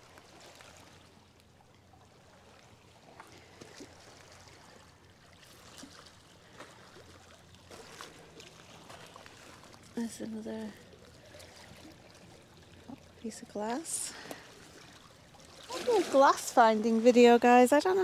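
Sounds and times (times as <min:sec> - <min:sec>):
river water lapping on rocks: 0:00.0 - 0:18.0.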